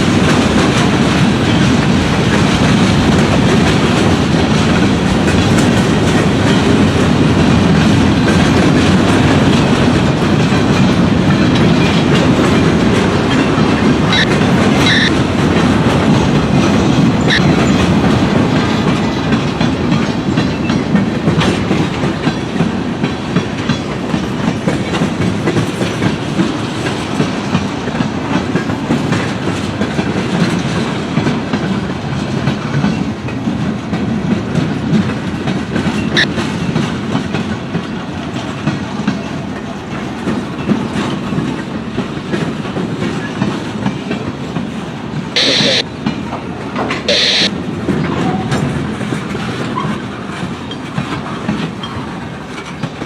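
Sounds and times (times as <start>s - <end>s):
train wheels clacking over rail joints: 0.0s - 53.0s.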